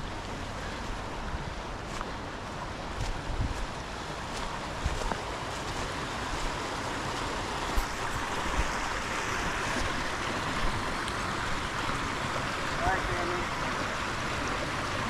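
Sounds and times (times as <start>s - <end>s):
water rushing in waterfalls: 0.0s - 15.0s.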